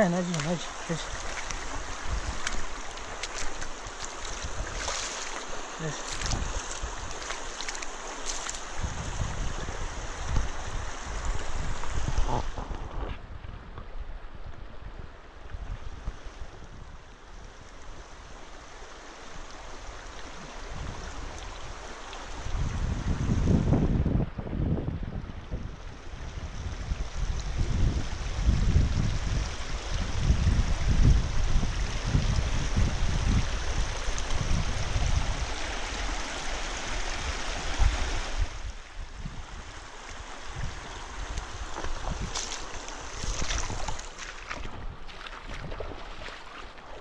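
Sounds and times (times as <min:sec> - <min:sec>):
stream running over stones: 0:00.0 - 0:24.2, 0:25.5 - 0:47.0
wind rumble on microphone: 0:00.0 - 0:47.0.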